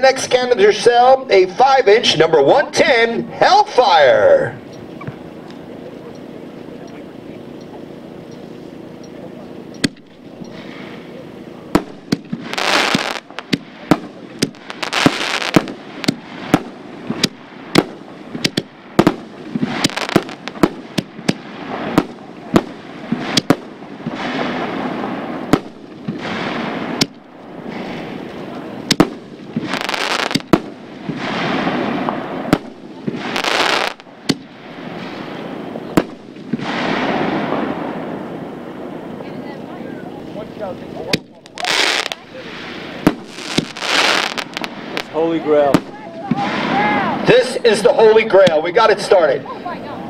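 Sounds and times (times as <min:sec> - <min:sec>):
fireworks bursting with sharp bangs: 0:07.9 - 0:49.2.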